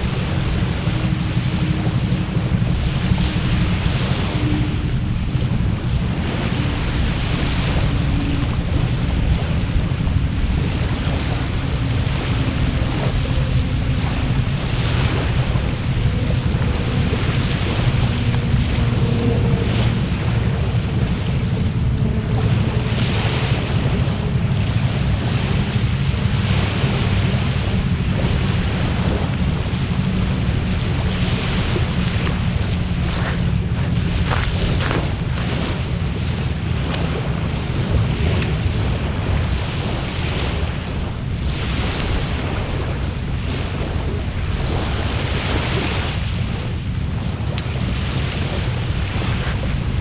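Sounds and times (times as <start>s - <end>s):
wood fire rumbling: 0.0s - 41.5s
steady high-pitched tone: 0.0s - 41.9s
high whine: 0.0s - 50.0s
wind noise on microphone: 0.0s - 50.0s.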